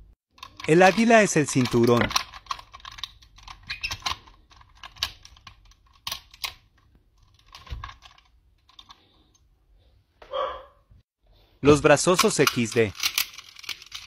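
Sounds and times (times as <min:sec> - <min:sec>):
plastic toy parts clicking: 0:00.3 - 0:09.4, 0:11.8 - 0:14.0.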